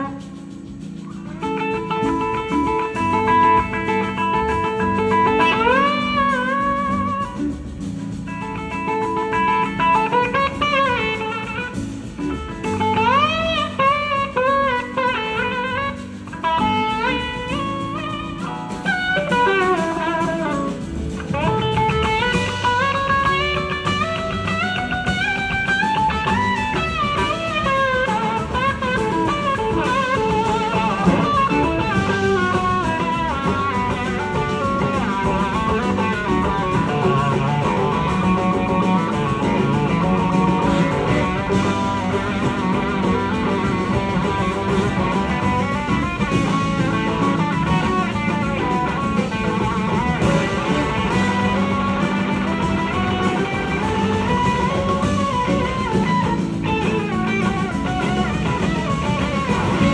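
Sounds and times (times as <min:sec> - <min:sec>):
electric guitar lead with bending notes: 0:00.0 - 0:59.9
live rock band playing: 0:00.0 - 0:59.9.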